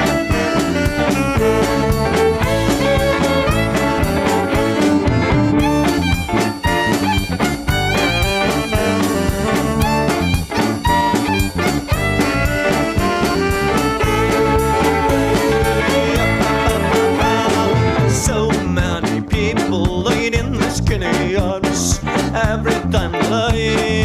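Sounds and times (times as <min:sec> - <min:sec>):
upbeat jazz swing music with brass: 0:00.0 - 0:24.0.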